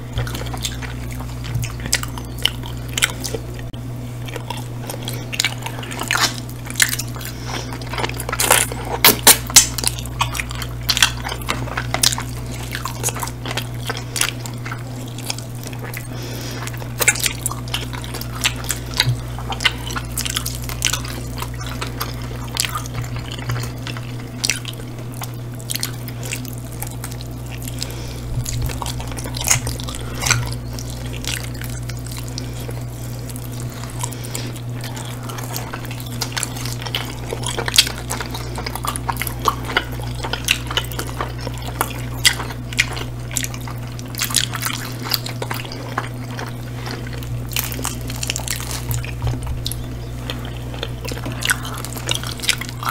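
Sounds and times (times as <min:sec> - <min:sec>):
low hum: 0:00.0 - 0:52.9
people chewing wet mouth sounds: 0:00.0 - 0:52.9.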